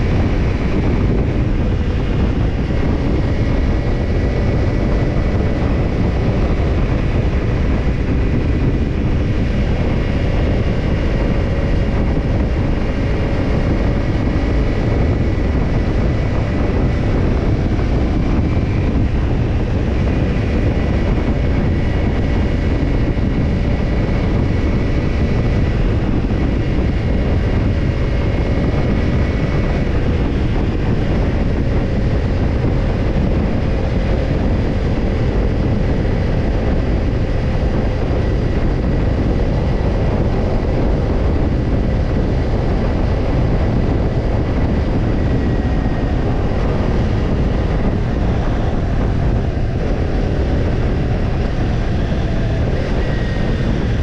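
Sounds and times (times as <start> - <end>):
motorcycle exhaust note: 0.0 - 54.0.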